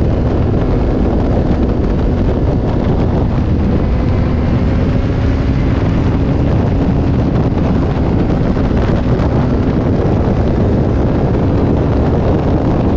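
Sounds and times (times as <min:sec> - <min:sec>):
motorcycle engine droning: 0:00.0 - 0:12.9
wind rush on microphone: 0:00.0 - 0:12.9.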